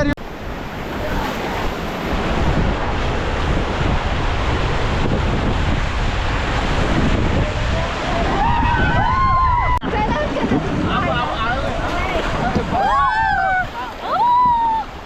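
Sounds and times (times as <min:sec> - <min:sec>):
wind buffeting microphone: 0:00.0 - 0:15.0
river water rushing: 0:00.2 - 0:15.0.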